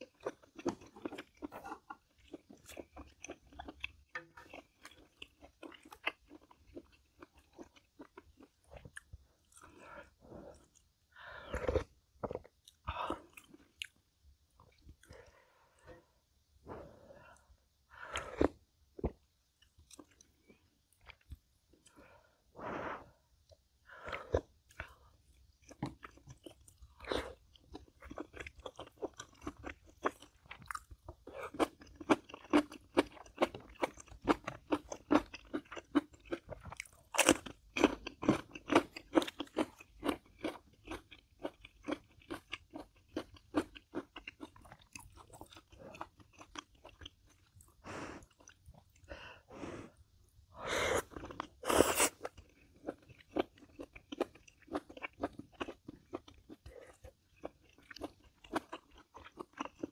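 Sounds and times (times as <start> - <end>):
person chewing crunchy food: 0.0 - 22.1, 23.4 - 59.9.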